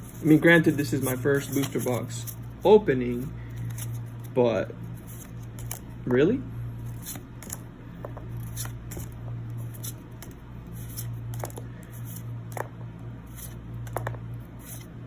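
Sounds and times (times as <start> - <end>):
cards flicking and rustling: 0.0 - 6.0, 6.8 - 15.0
steady low hum: 0.0 - 15.0.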